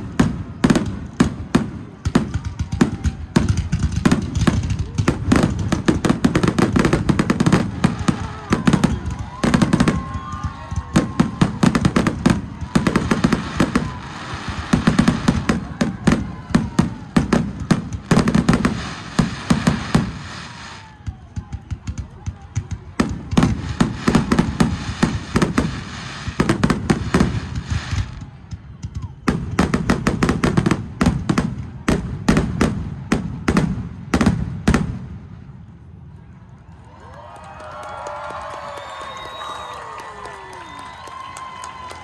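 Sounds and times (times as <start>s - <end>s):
rumbling fireworks booms: 0.0s - 36.3s
fireworks bangs and crackles: 0.0s - 36.9s.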